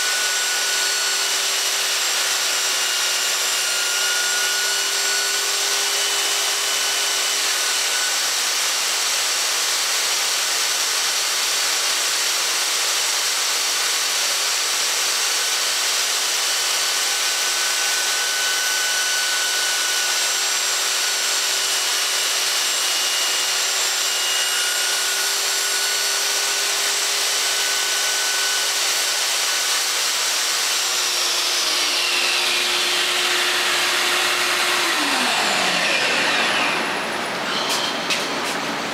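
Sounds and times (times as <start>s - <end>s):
table saw motor whine: 0.0s - 38.9s.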